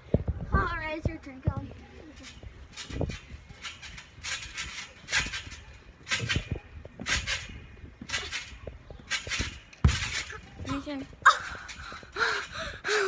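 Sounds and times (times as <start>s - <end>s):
trampoline landing thuds: 0.2s - 12.5s
trampoline spring noise: 1.3s - 13.0s.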